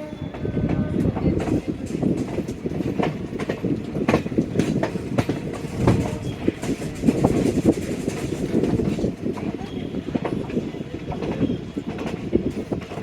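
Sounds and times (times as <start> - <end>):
train coaches rumbling: 0.0 - 13.0
wheels clacking over rail joints: 0.2 - 13.0.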